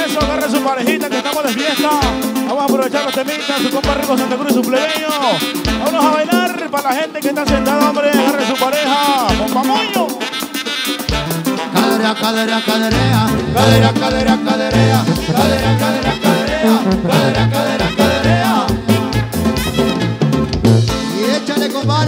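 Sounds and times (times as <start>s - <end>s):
button accordion melody: 0.0s - 22.0s
drum kit beat: 0.0s - 22.0s
sousaphone bass line: 0.0s - 22.0s.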